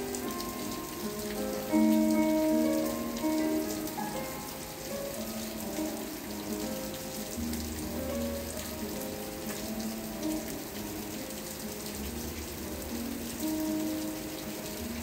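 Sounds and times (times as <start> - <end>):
soft background music: 0.0 - 15.0
steady rain: 0.0 - 15.0.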